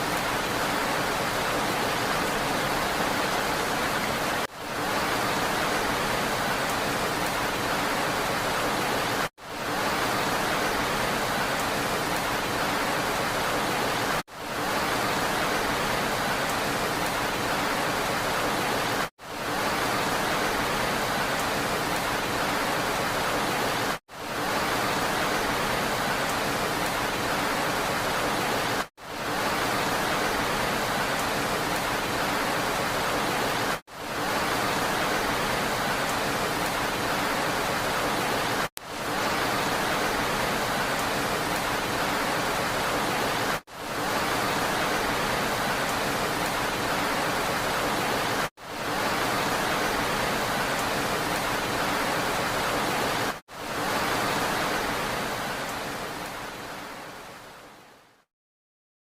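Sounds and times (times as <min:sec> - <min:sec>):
steady rain hiss: 0:00.0 - 0:58.3.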